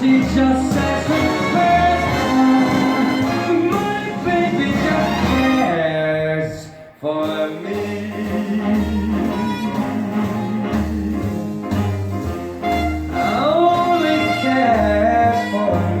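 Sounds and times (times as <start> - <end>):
jazz orchestra music with strings: 0.0 - 16.0.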